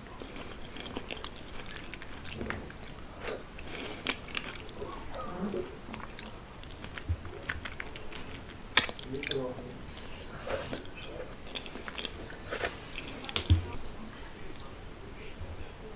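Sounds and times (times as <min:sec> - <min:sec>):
person biting and chewing food: 0:00.0 - 0:04.9, 0:05.9 - 0:13.9.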